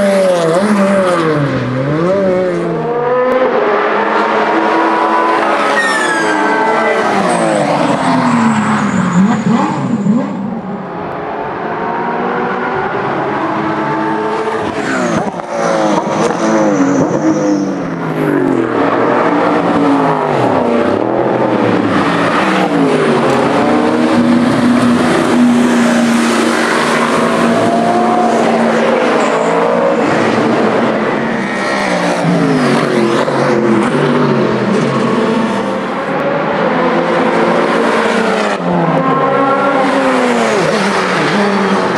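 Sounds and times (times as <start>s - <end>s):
racing cars passing at speed: 0.0s - 41.9s.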